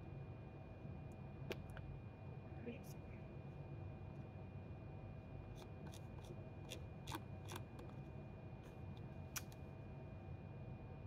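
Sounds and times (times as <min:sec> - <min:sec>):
faint hum with high tone: 0:00.0 - 0:11.0.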